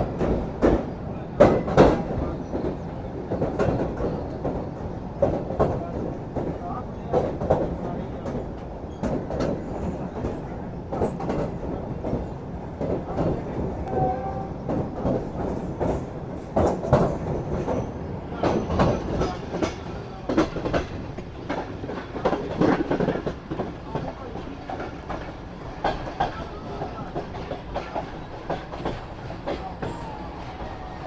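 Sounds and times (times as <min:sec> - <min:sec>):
train rumble: 0:00.0 - 0:31.0
wheels clacking over rail joints: 0:00.0 - 0:31.0.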